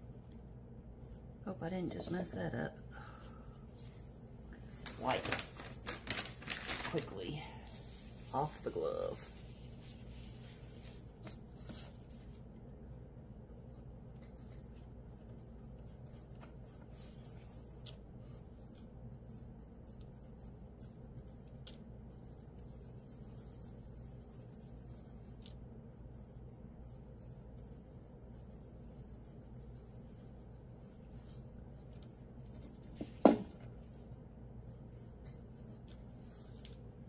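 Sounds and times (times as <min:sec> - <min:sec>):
steady low hum: 0:00.0 - 0:37.0
faint rubbing and scratching: 0:01.0 - 0:12.4, 0:13.5 - 0:37.0.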